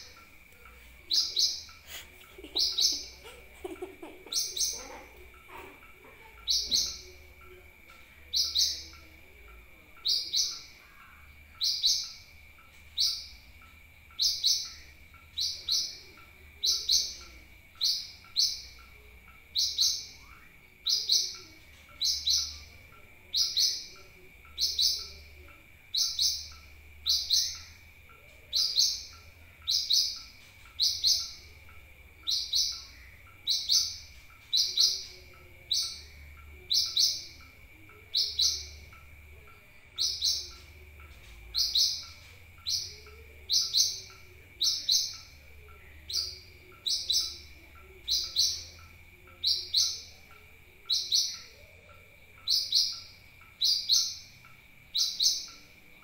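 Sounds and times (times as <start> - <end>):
high bird chirps: 0.0 - 55.8.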